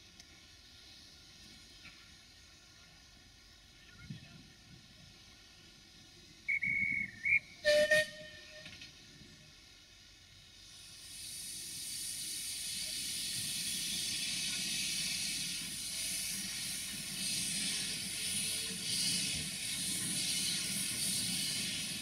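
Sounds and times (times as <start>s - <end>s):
steam locomotive hissing steam: 0.0s - 22.0s.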